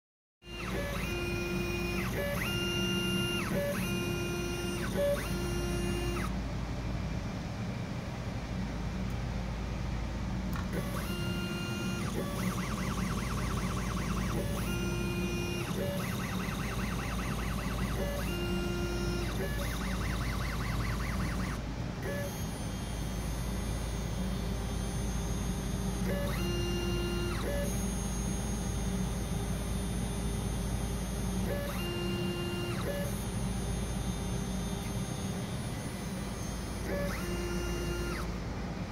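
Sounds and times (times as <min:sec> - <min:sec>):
syringe pump motor whine: 0:00.4 - 0:06.4, 0:10.5 - 0:38.9.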